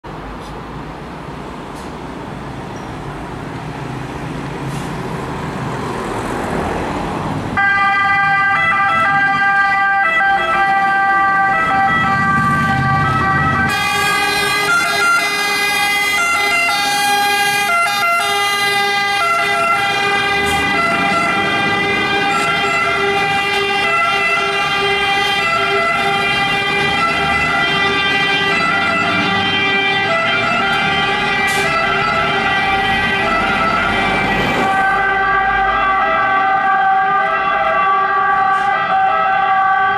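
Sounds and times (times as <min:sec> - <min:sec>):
diesel engines rumbling: 0:00.0 - 0:39.9
second siren: 0:07.6 - 0:39.9
two-tone siren: 0:07.6 - 0:39.9.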